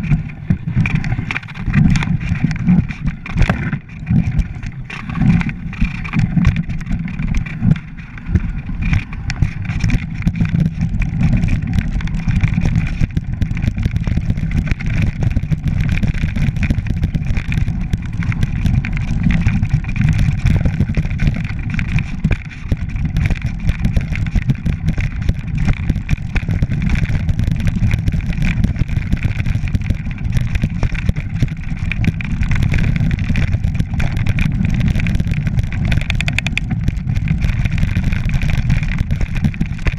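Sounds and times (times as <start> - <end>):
bike tyres rattling over stones: 0.0 - 39.9
wind rumble on microphone: 0.0 - 39.9.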